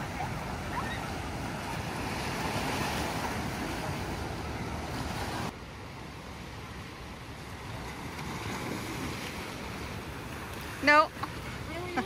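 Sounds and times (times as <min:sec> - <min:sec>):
ocean waves: 0:00.0 - 0:12.0.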